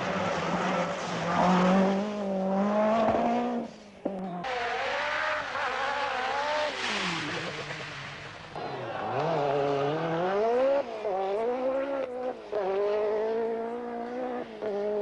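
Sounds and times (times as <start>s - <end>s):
rally car engines revving: 0.0s - 15.0s.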